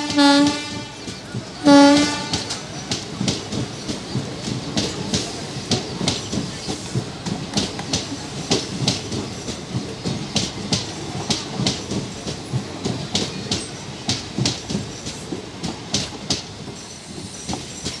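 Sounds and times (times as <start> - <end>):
low train rumble: 0.0 - 18.0
train wheels clacking over joints: 0.0 - 18.0.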